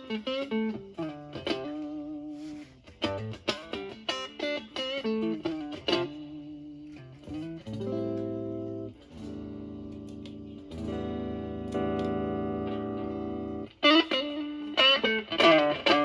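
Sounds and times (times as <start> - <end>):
clean electric guitar lick: 0.0 - 16.0
ringing guitar chords: 0.0 - 16.0.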